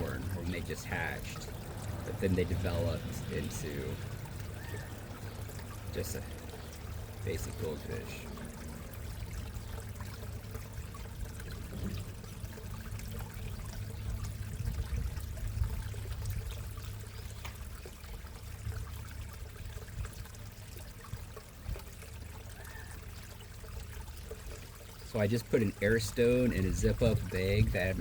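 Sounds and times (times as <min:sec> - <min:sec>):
low steady rumble: 0:00.0 - 0:28.0
water trickling and splashing: 0:00.0 - 0:28.0.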